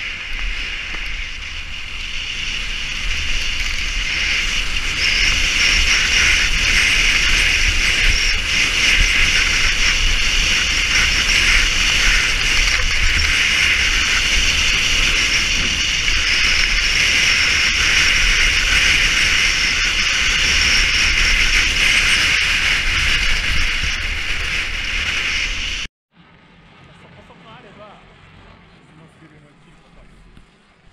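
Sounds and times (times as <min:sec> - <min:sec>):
skis hissing over snow: 0:00.0 - 0:25.9
wind buffeting microphone: 0:00.0 - 0:25.9.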